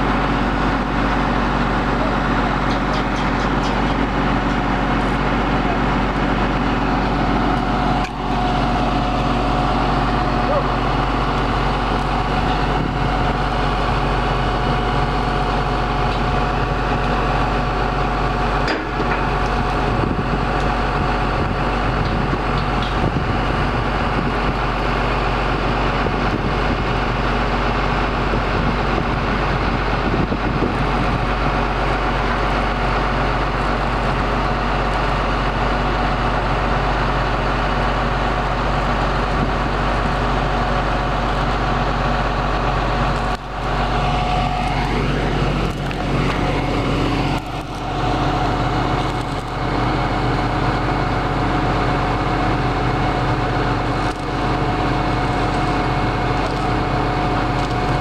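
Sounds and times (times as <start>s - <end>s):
crane engine droning: 0.0s - 58.0s
steady whine: 0.0s - 58.0s.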